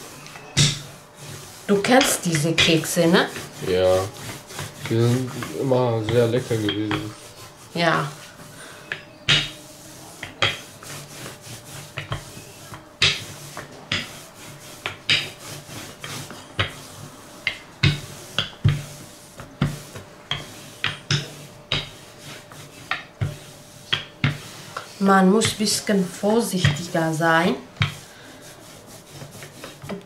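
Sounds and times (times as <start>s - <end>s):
rolling pin rubbing on dough: 0.0s - 30.0s
rolling pin knocking: 0.5s - 0.9s, 1.7s - 24.5s, 25.4s - 27.1s, 27.8s - 28.0s.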